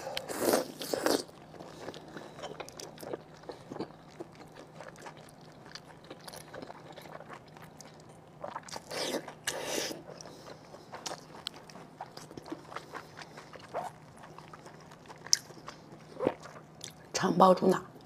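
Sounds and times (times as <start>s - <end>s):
wet chewing: 0.1s - 17.1s.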